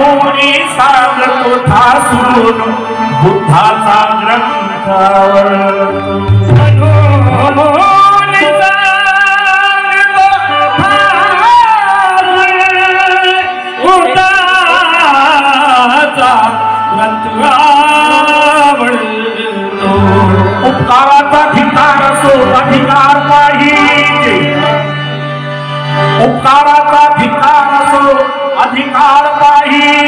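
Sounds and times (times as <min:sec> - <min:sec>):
instrumental accompaniment: 0:00.0 - 0:30.0.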